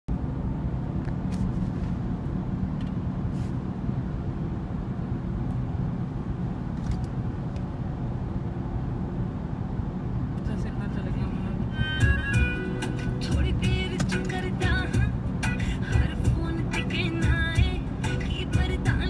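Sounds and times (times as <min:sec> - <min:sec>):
car engine and tyre rumble: 0:00.1 - 0:19.0.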